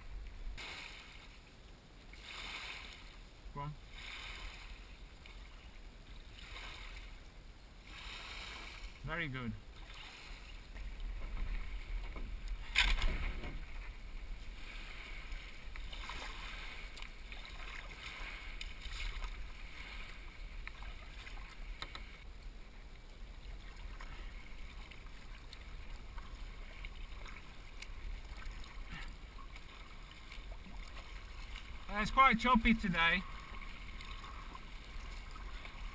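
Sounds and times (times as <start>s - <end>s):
kayak paddle splashing: 0.0s - 35.9s.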